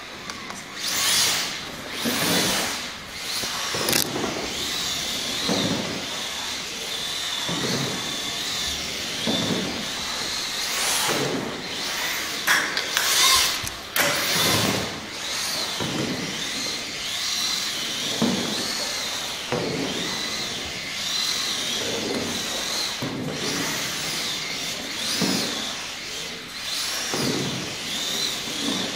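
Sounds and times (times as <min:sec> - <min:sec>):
model car electric motor whining: 0:00.0 - 0:28.9.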